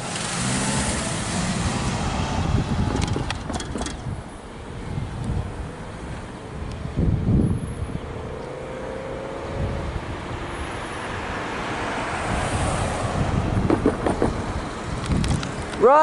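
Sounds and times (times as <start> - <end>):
vehicle passing: 0.0 - 15.8
low traffic rumble: 0.0 - 16.0.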